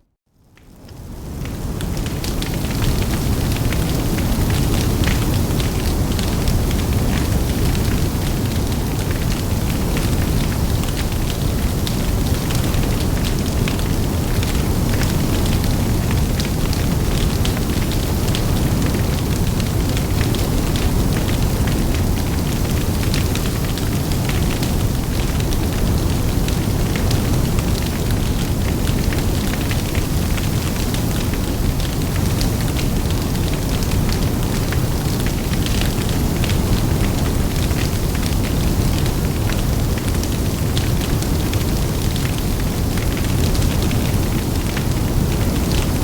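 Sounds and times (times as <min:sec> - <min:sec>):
low rumble of flames: 0:00.4 - 0:46.0
fire crackling and popping: 0:00.5 - 0:46.0.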